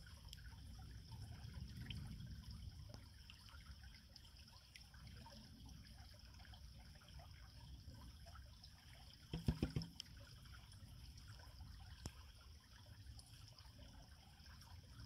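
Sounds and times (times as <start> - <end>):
creek water trickling: 0.0 - 15.0.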